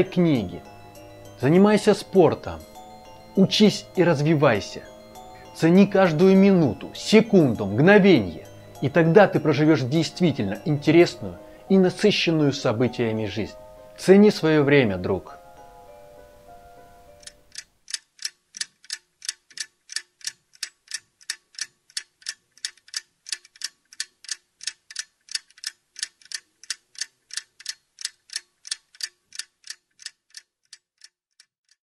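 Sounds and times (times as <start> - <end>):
clock ticking: 0.0 - 11.2, 17.2 - 31.8.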